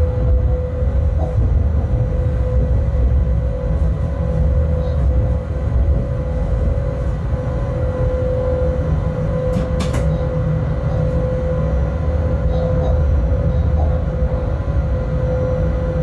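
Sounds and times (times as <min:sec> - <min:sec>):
constant whine: 0:00.0 - 0:16.0
train rumbling on track: 0:00.0 - 0:16.0.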